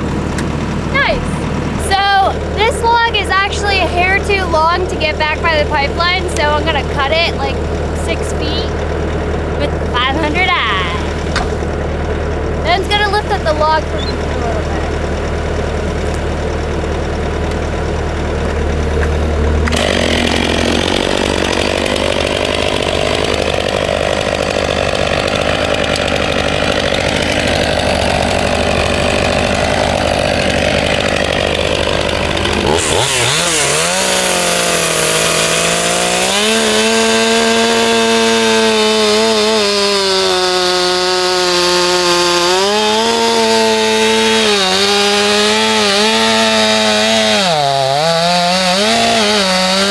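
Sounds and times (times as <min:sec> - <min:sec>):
chainsaw cutting through log: 0:00.0 - 0:49.9.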